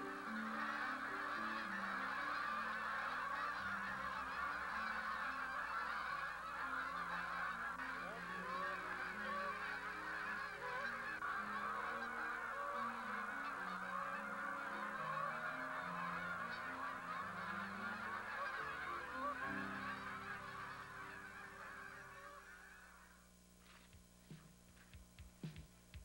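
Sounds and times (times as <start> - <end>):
geese honking in flight: 0.0 - 23.3.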